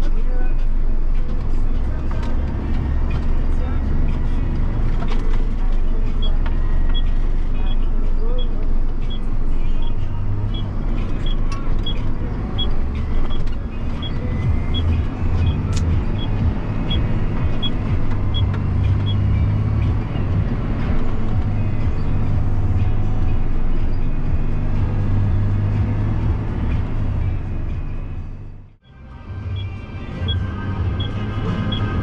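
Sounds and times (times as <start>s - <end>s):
tractor diesel engine running: 0.0s - 32.0s
turn indicator ticking: 1.2s - 27.8s.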